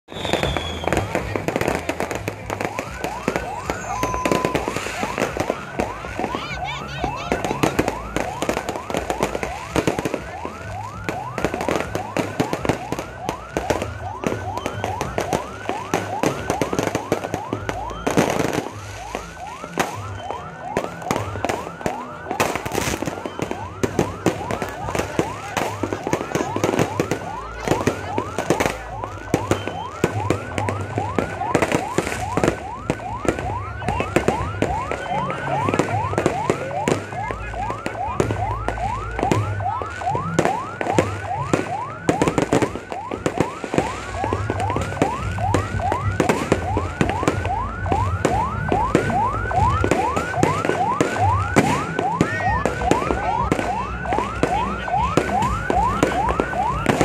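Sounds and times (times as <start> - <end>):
fireworks bangs and crackle: 0.0 - 57.0
siren yelping: 0.1 - 57.0.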